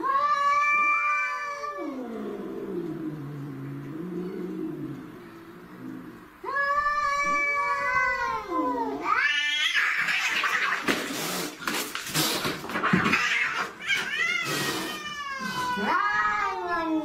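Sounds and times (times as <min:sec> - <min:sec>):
cats screeching and scuffling: 0:00.0 - 0:05.0, 0:05.8 - 0:17.0
cats growling and yowling: 0:00.0 - 0:17.0.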